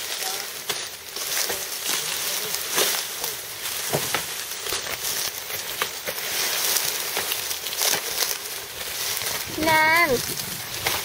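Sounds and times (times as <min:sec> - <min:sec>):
dry cane stalks crackling: 0:00.0 - 0:11.0.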